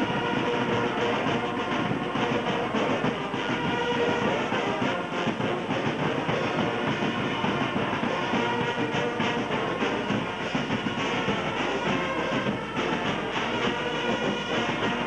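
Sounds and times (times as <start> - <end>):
music with drum beat: 0.0 - 15.0.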